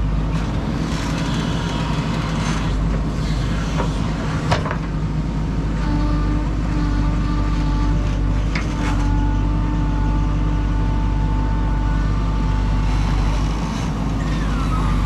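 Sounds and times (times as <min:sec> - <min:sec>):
diesel engine running: 0:00.0 - 0:15.0
steady whine: 0:00.0 - 0:15.0.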